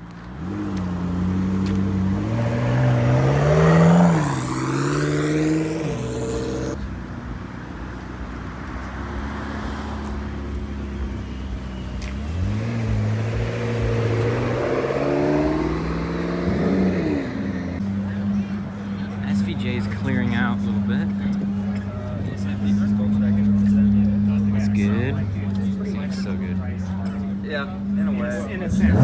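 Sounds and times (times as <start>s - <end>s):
car accelerating: 0.0s - 29.0s
sports car engines revving: 0.0s - 29.0s.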